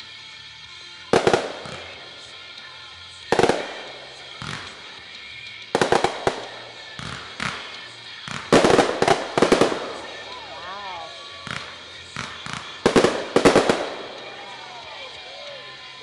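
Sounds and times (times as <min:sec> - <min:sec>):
rock song: 0:00.0 - 0:16.0
fireworks bangs: 0:01.1 - 0:16.0.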